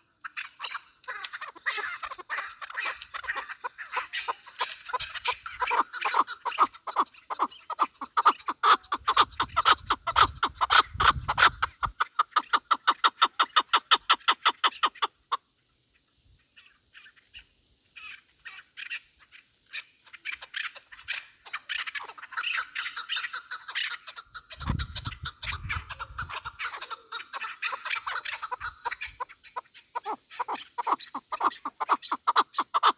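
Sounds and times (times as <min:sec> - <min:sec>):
partridge clucking calls: 0:00.0 - 0:32.9.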